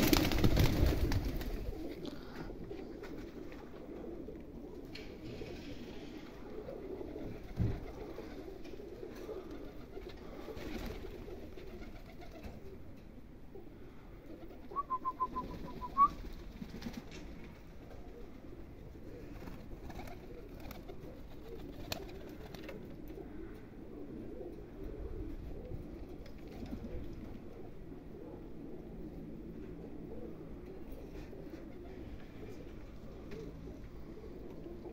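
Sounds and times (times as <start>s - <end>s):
pigeons cooing: 0.0s - 34.9s.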